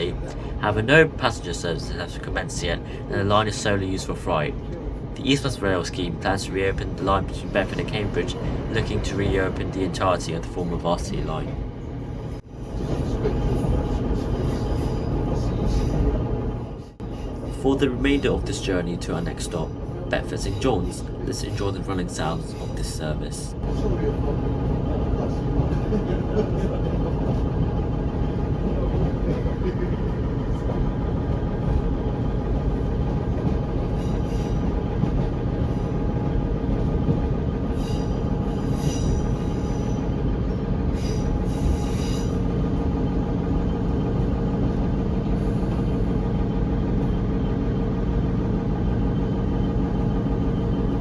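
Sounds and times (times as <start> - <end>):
train interior rumble: 0.0 - 51.0.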